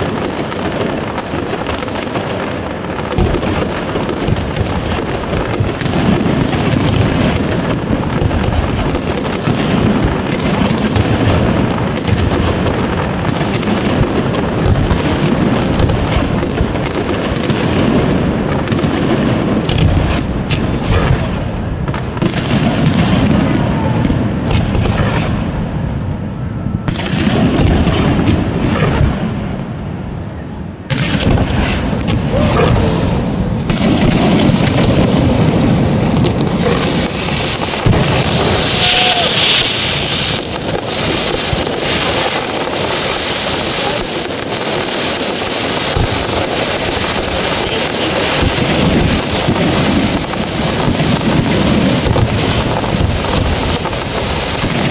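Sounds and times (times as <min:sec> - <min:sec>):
fireworks bursting and crackling: 0:00.0 - 0:54.9.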